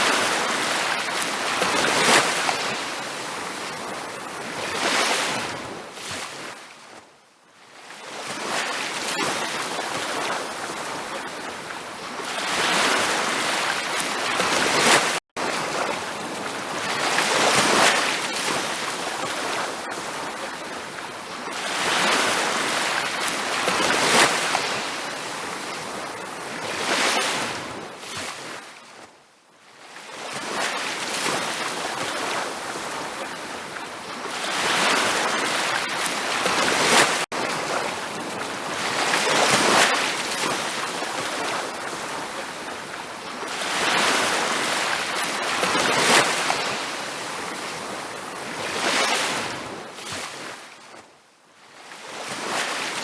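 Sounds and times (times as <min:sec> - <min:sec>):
ocean surf breaking on beach: 0:00.0 - 0:06.8, 0:07.8 - 0:29.0, 0:29.8 - 0:51.0, 0:51.8 - 0:53.0.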